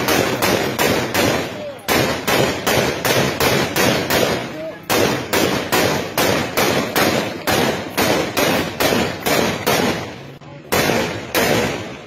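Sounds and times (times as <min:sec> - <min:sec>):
rifle shots: 0:00.0 - 0:12.0.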